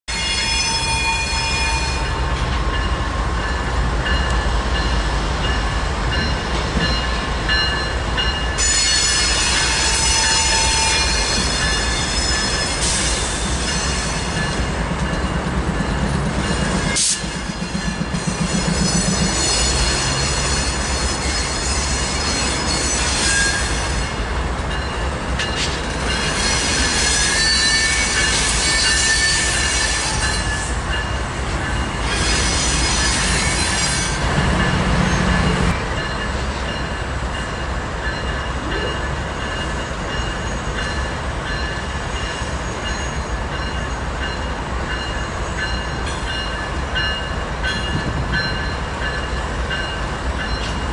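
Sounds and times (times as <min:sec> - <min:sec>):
train wheels squealing: 0:00.1 - 0:02.9, 0:05.4 - 0:24.2, 0:25.4 - 0:30.8, 0:31.7 - 0:36.9, 0:38.0 - 0:50.9.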